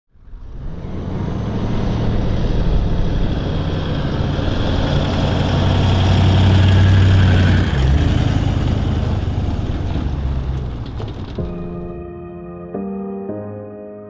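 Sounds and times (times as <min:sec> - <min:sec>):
engine running with low hum: 0:00.1 - 0:11.8.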